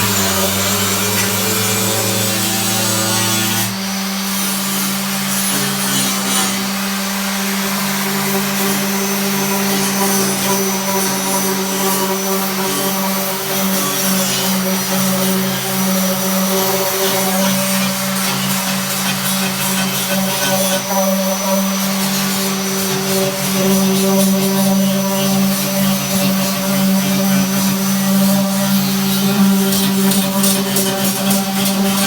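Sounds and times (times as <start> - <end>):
power tool on metal: 0.0 - 32.0.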